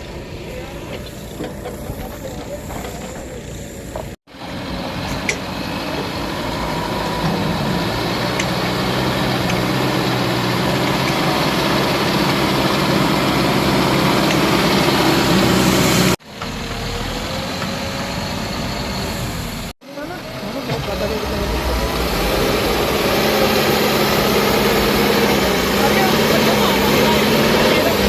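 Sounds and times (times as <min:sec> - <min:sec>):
heavy diesel engine running: 0:00.0 - 0:28.0
quieter engine: 0:00.0 - 0:28.0.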